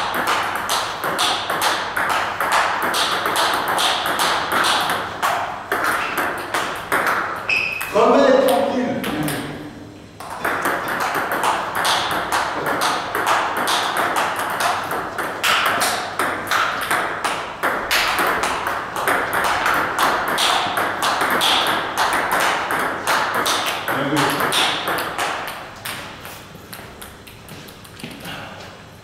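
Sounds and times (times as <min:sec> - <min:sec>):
ping pong ball clicking: 0:00.0 - 0:09.5, 0:10.2 - 0:28.2.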